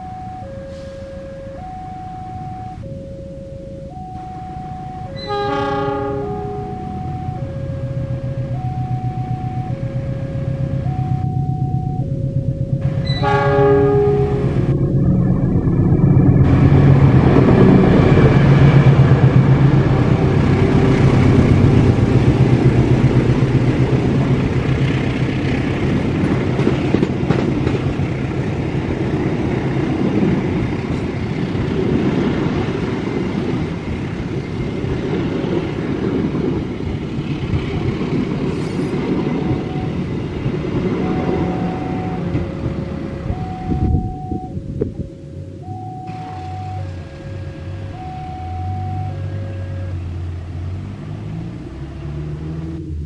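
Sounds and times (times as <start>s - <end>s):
locomotive engine drone: 0.0s - 53.0s
train coaches rumbling on rails: 4.6s - 53.0s.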